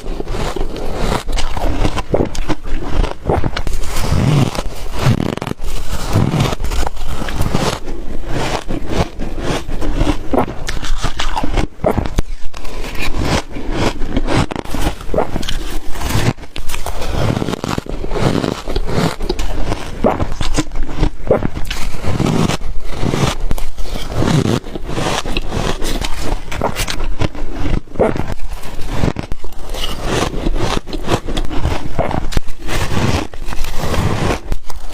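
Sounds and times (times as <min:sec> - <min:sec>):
ice being crunched: 0:00.0 - 0:34.9.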